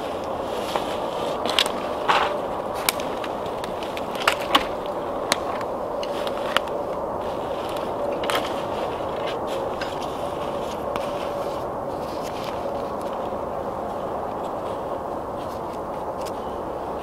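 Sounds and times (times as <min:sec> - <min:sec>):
fire hissing: 0:00.0 - 0:17.0
kindling fire crackling: 0:00.0 - 0:17.0.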